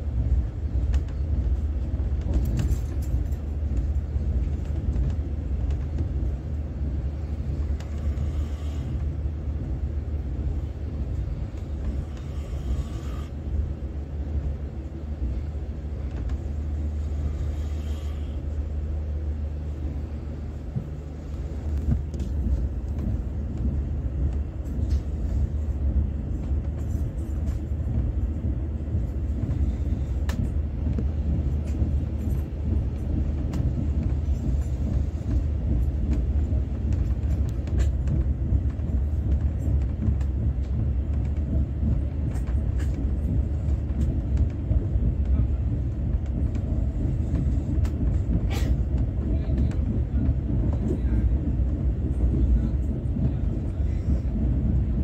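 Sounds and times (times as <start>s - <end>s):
passenger train rumbling: 0.0s - 55.0s.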